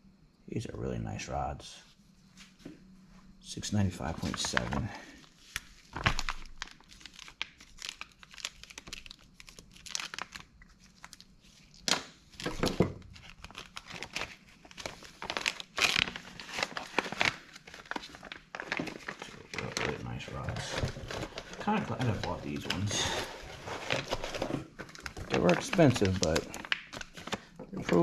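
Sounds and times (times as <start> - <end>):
crinkling and rustling: 4.0 - 28.0.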